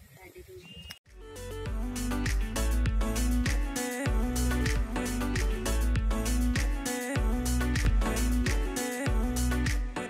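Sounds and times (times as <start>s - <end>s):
music with deep bass beat: 1.1s - 10.0s.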